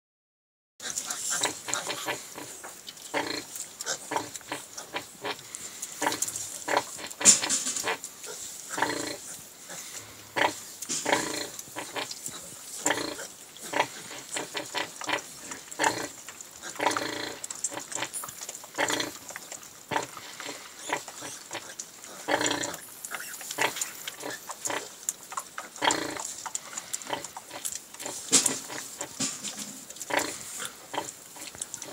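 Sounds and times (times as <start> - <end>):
pigs grunting: 0.8 - 31.9.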